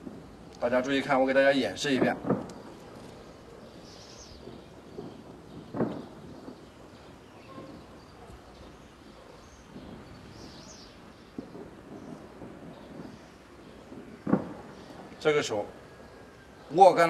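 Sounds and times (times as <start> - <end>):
outdoor background noise: 0.0 - 17.0
bird chirps: 2.5 - 16.8.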